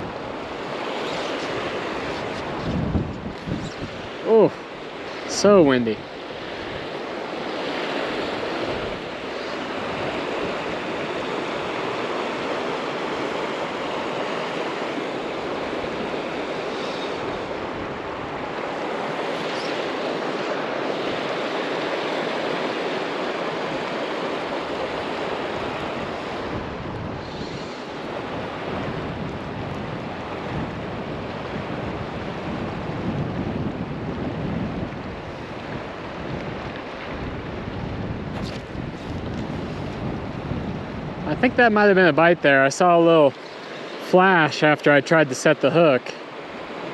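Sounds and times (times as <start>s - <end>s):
wind buffeting microphone: 0.0s - 42.4s
river current rushing: 0.0s - 46.9s.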